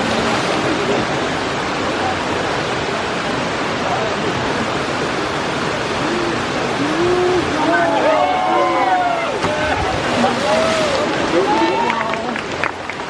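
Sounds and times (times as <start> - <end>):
faint voices: 0.0 - 12.6
waterfall rushing: 0.0 - 13.0.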